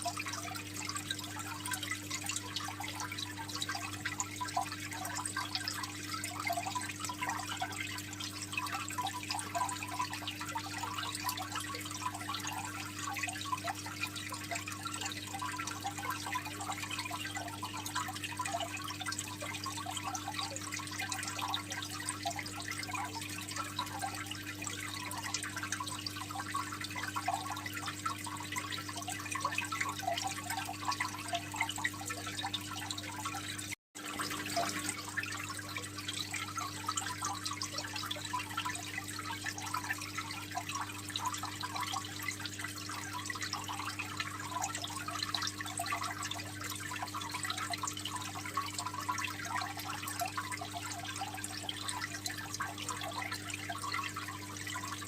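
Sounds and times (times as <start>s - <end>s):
aquarium water trickling: 0.0s - 55.0s.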